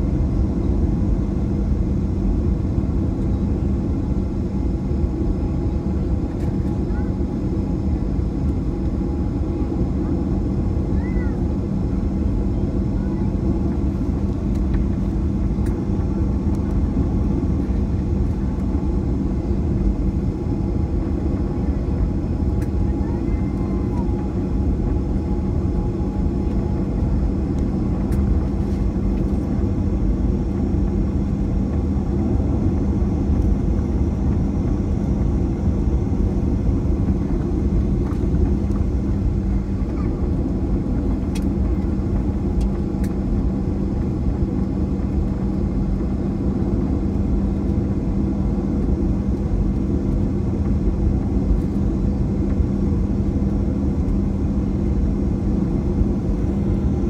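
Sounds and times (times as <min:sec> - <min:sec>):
airplane engines droning in flight: 0:00.0 - 0:57.0.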